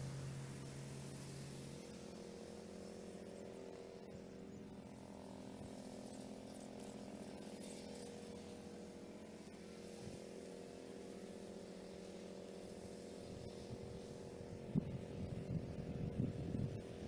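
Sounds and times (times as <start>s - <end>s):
faint ride-on lawn mower engine: 0.0s - 17.0s.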